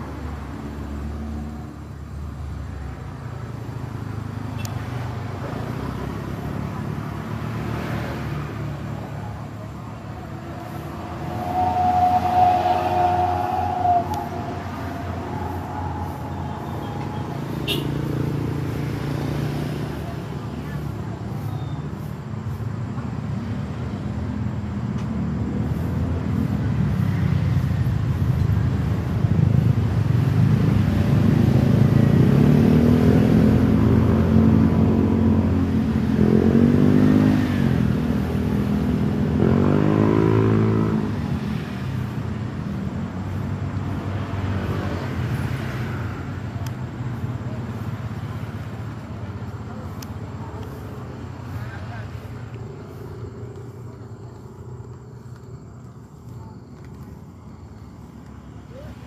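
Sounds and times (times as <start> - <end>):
road traffic noise: 0.0 - 59.0
vehicles passing close by: 0.0 - 59.0.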